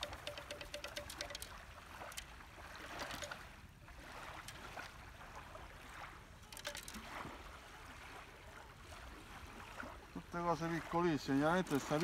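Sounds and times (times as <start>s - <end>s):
lake water lapping at shoreline: 0.0s - 12.0s.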